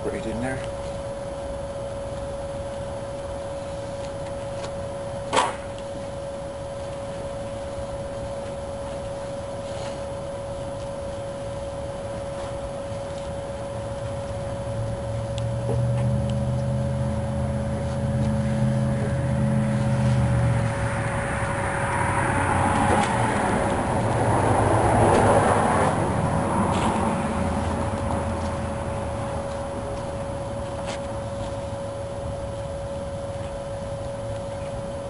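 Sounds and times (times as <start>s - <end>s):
steady high hum: 0.0s - 35.0s
vehicle engine drone: 0.0s - 35.0s.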